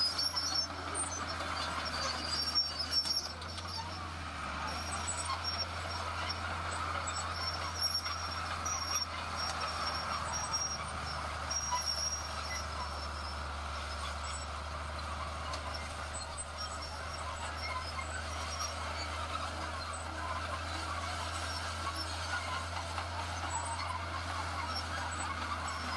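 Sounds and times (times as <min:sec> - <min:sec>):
diesel machinery engine drone: 0:00.0 - 0:25.9.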